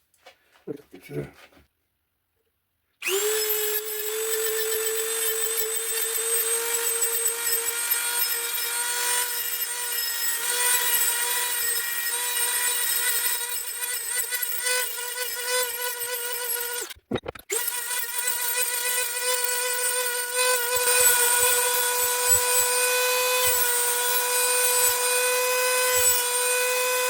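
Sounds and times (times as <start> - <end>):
rotary tool grinding metal: 3.0 - 27.0.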